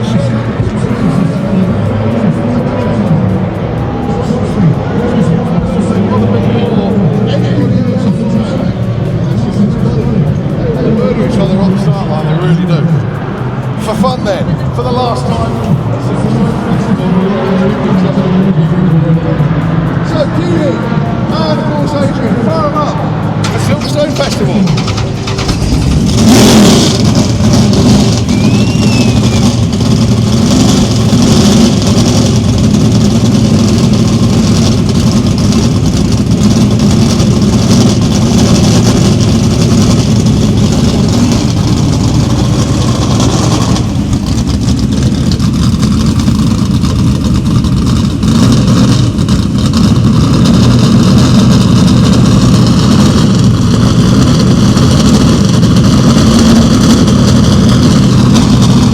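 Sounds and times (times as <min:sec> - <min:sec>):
drag car engines revving: 0:00.0 - 0:58.9.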